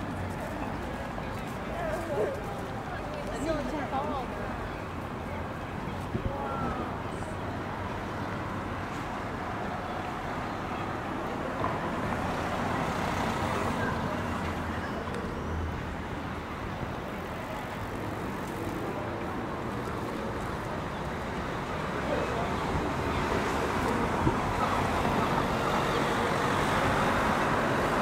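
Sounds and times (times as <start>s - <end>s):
light road traffic hum: 0.0s - 28.0s.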